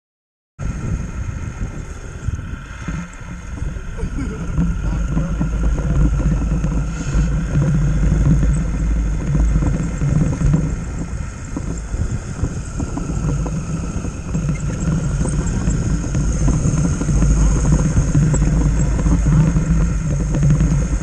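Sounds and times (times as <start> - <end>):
low rumble: 0.6 - 21.0
model truck motors whining: 0.6 - 21.0.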